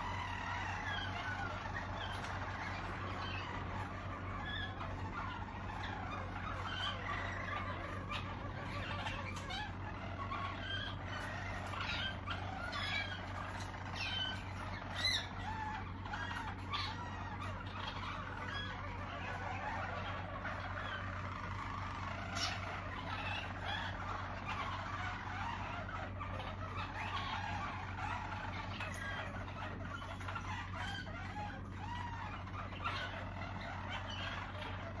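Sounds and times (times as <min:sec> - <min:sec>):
canaries singing trills: 0:00.0 - 0:35.0
steady low hum: 0:00.0 - 0:35.0.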